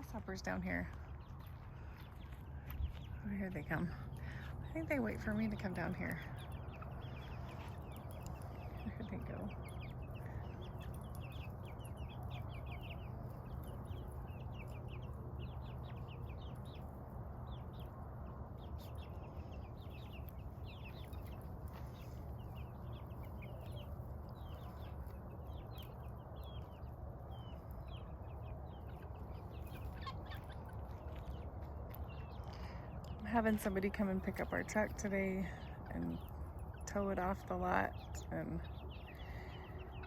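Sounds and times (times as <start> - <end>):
chickens and turkeys clucking: 0.0 - 40.0
steady low rumble: 0.0 - 40.0.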